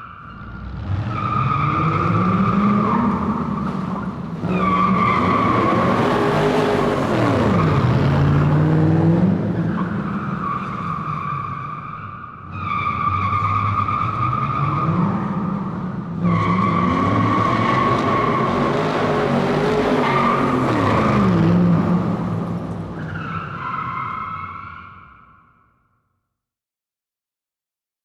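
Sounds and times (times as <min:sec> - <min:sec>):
car tyres squealing: 0:00.0 - 0:08.3, 0:09.4 - 0:25.6.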